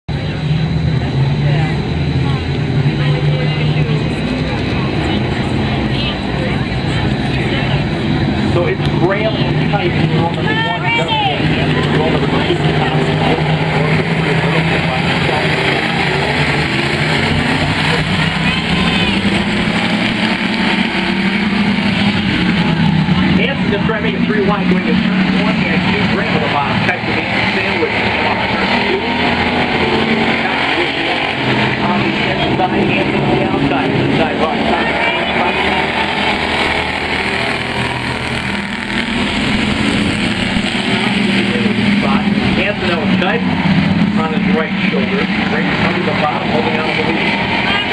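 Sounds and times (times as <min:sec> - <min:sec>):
race car engines droning: 0:00.0 - 0:47.9.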